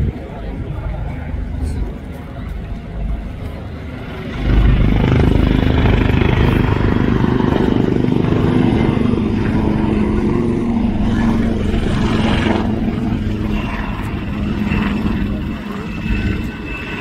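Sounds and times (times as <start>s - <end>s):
helicopter rotor chop: 0.0s - 17.0s
helicopter turbine whine: 0.0s - 17.0s.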